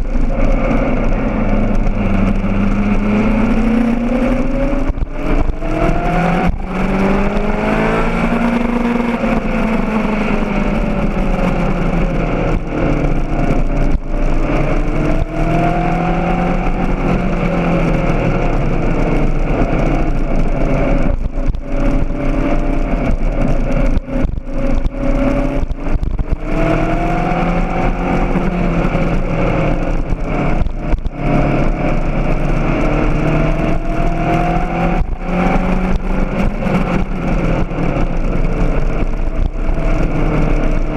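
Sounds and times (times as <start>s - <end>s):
motorcycle engine accelerating: 0.0s - 40.9s
wind on microphone: 0.0s - 40.9s.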